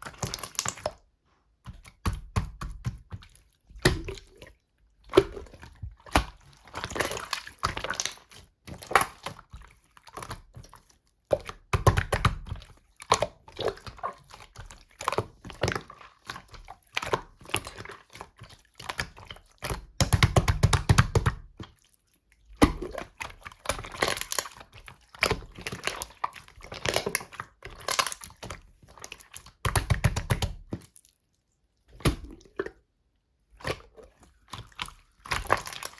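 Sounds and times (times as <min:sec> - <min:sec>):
slime squishing with clicks and pops: 0:00.0 - 0:21.8, 0:22.4 - 0:31.0, 0:31.9 - 0:32.8, 0:33.6 - 0:35.9.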